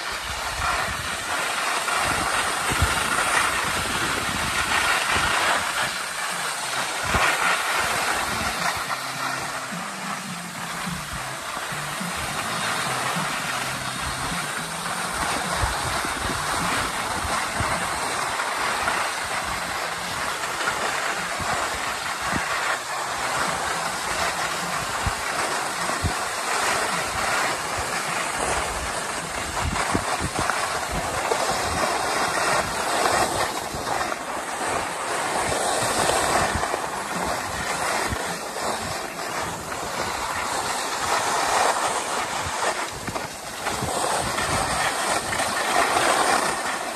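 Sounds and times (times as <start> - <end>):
skis sliding over snow: 0.0 - 46.9.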